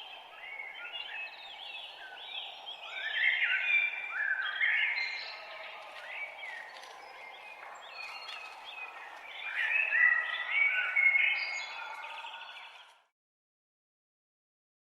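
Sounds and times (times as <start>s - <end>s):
blackbird fluted song: 0.0s - 13.0s
songbirds singing: 0.0s - 13.1s.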